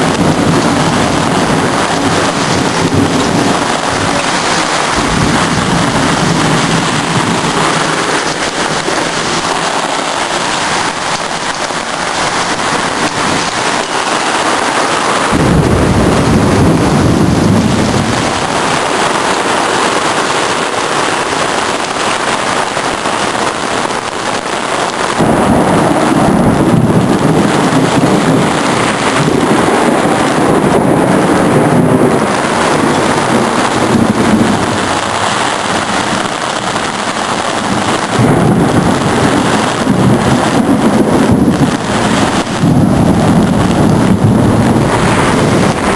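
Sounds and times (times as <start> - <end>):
heavy rain pouring: 0.0 - 45.9
thunder rumbling: 0.0 - 45.9.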